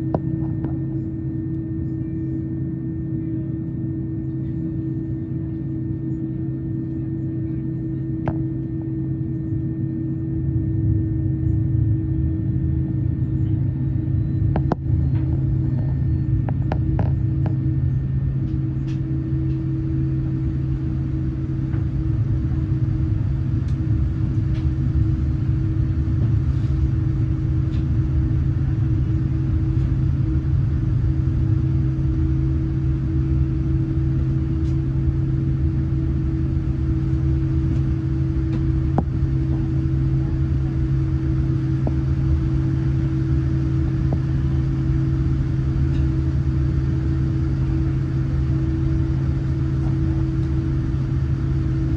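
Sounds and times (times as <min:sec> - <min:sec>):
jet engines rumbling in cabin: 0:00.0 - 0:51.9.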